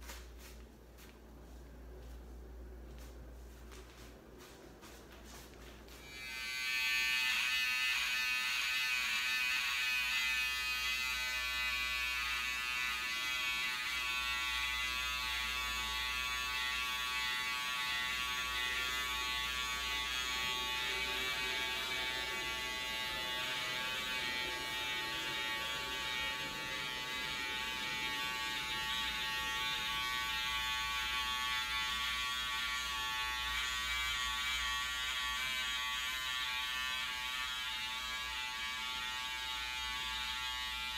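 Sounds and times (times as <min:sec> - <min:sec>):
electric hair clippers buzzing: 0:05.9 - 0:40.9.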